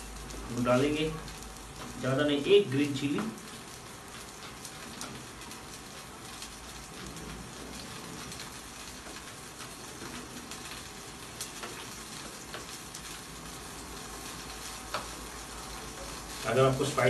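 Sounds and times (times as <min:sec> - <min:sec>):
peas sizzling in hot oil: 0:00.0 - 0:17.0.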